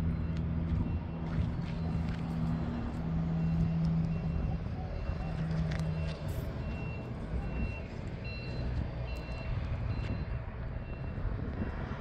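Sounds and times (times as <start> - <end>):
reversing alarm beeping: 0.0 - 11.3
diesel truck engine idling: 0.0 - 11.4.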